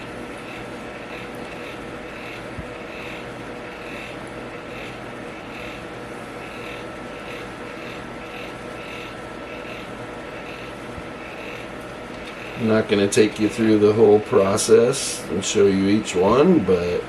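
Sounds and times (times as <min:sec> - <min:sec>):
electric fan whirring: 0:00.0 - 0:17.0.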